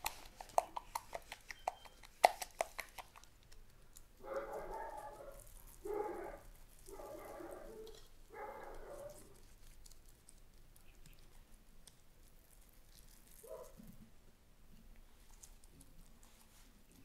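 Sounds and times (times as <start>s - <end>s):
seeds pattering on wooden board: 0.0s - 14.1s
pastry brush dabbing: 0.0s - 17.0s.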